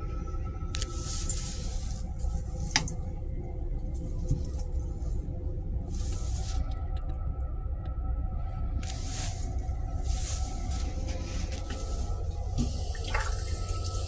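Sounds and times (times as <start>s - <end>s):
railcar rumble and hum: 0.0s - 14.0s.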